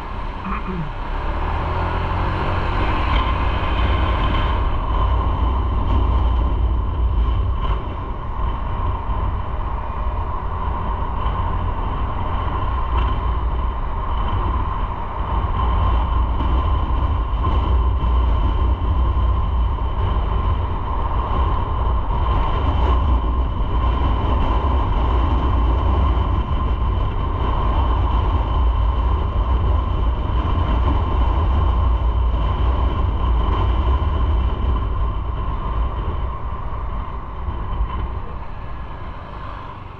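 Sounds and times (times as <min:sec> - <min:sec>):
motorcycle engine and road noise: 0:00.0 - 0:39.9
wind on microphone: 0:00.0 - 0:39.9.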